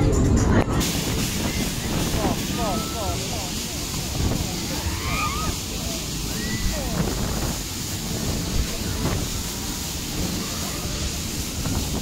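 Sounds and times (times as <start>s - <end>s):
wind buffeting microphone: 0.8s - 12.0s.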